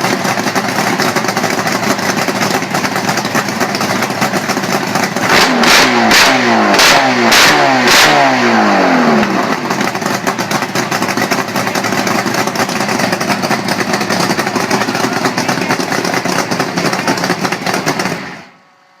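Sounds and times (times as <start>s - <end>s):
motorcycle engine idling: 0.0s - 6.6s, 8.6s - 18.6s.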